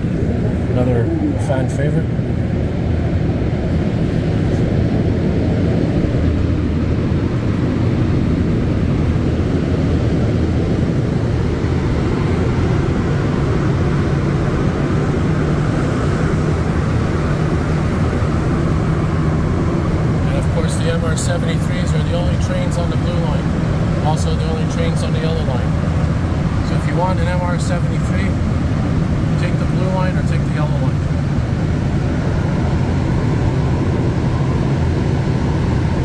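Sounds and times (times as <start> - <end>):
subway train rumbling in tunnel: 0.0 - 36.0.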